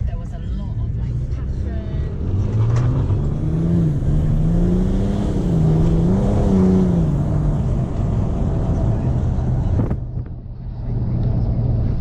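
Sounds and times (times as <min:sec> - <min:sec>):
diesel engine while driving: 0:00.0 - 0:12.0
tyre and road noise: 0:00.0 - 0:12.0.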